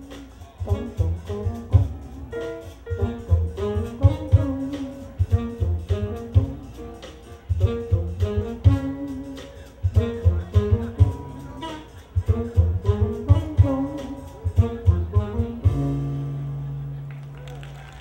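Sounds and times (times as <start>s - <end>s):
jazz-funk band instrumental: 0.0s - 18.0s.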